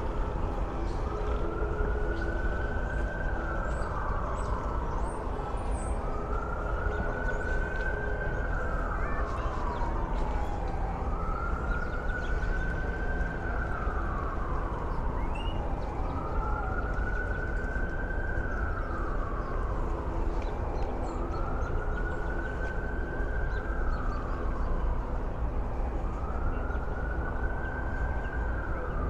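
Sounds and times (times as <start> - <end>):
city traffic hum: 0.0 - 29.0
emergency vehicle siren wailing: 0.0 - 29.0.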